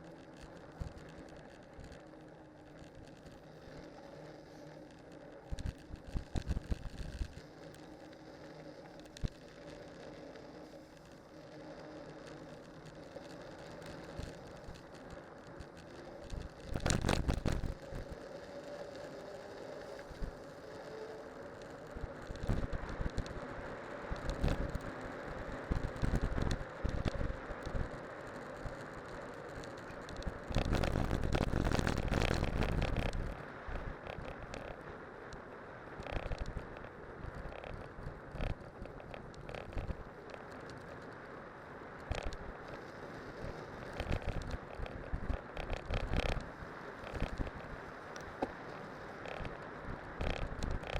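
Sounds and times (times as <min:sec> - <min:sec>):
bike tyre and road noise: 0:00.0 - 0:50.9.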